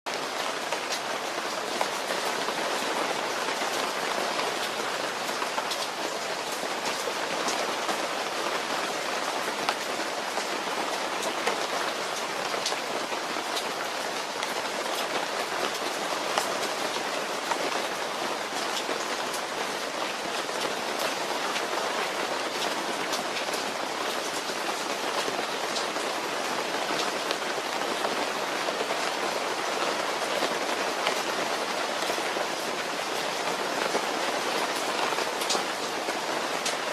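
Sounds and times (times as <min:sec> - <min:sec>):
steady rain falling: 0:00.1 - 0:36.9.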